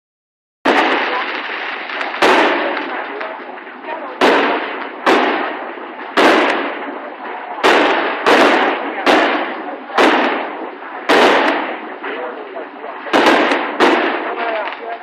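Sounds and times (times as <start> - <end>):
fireworks bangs: 0.6 - 15.0.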